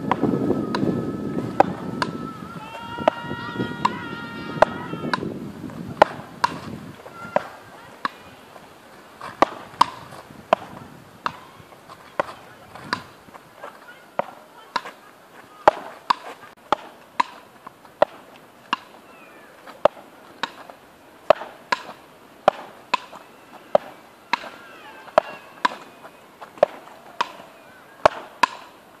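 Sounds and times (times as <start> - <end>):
ball knocking off paddle rackets: 1.5 - 2.2, 3.0 - 8.3, 9.2 - 15.0, 15.6 - 19.0, 19.6 - 28.8.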